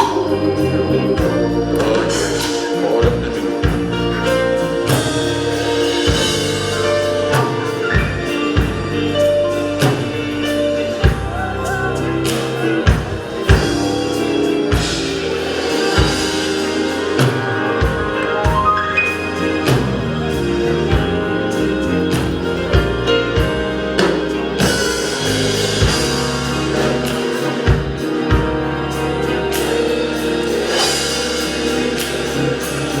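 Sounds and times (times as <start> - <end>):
organ chords: 0.0 - 33.0
drum beat: 1.2 - 28.9.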